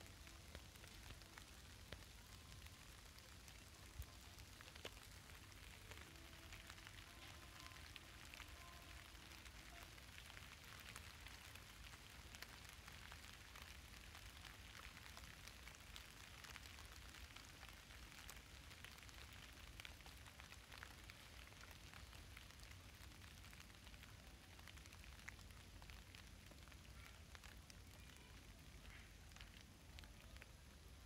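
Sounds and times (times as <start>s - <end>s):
faint outdoor hiss: 0.0s - 31.0s
small crackling ticks: 0.0s - 31.0s.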